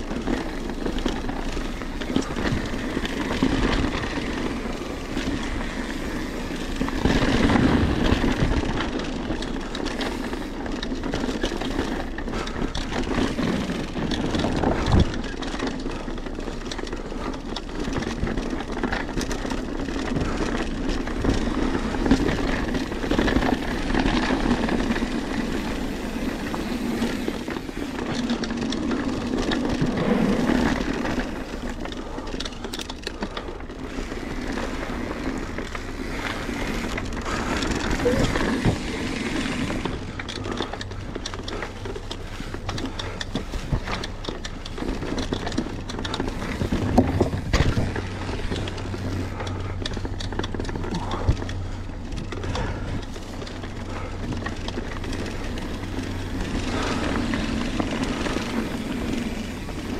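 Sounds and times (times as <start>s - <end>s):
bike rattling over ground: 0.0s - 59.9s
bike tyre and wind noise: 0.0s - 59.9s.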